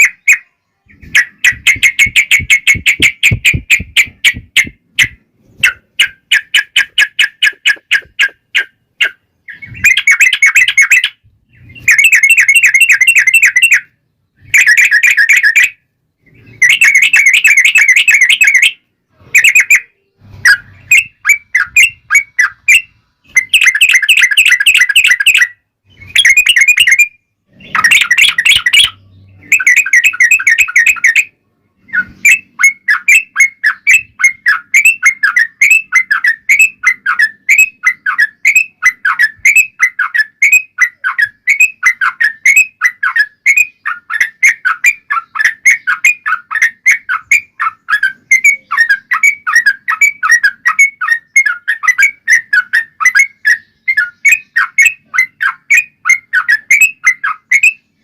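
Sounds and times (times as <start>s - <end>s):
bulbul singing rapid chattering notes: 0.0s - 58.0s.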